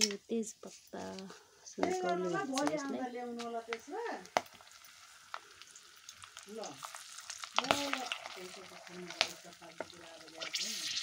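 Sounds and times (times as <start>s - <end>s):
spices sizzling in hot oil: 0.0s - 0.9s, 1.7s - 11.0s.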